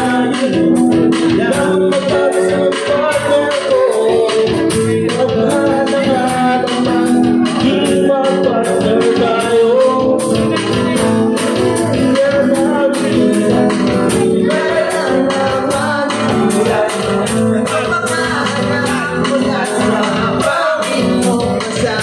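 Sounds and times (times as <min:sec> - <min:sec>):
electric guitar: 0:00.0 - 0:22.0
hand drum beat: 0:00.0 - 0:22.0
man singing: 0:00.0 - 0:22.0.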